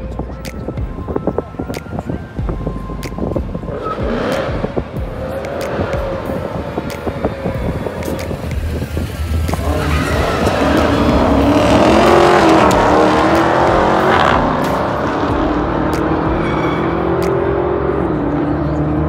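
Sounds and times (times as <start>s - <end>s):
car engines idling: 0.0s - 19.0s
cars accelerating at full throttle: 0.1s - 19.0s.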